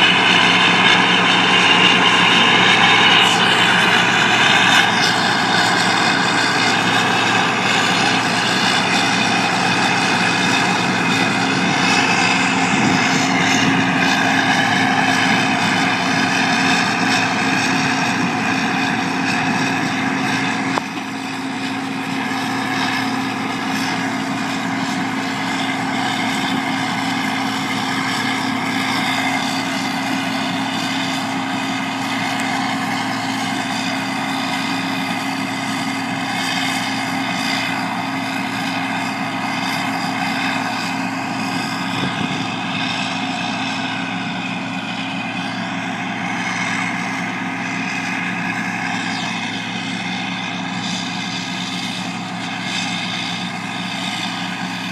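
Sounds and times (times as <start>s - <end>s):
harvester engine droning: 0.0s - 54.9s.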